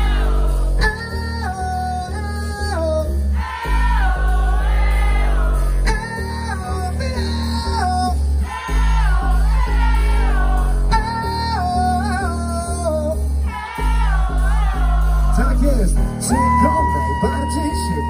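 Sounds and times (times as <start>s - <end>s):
deep bass line: 0.0s - 18.0s
keyboards: 0.0s - 18.0s.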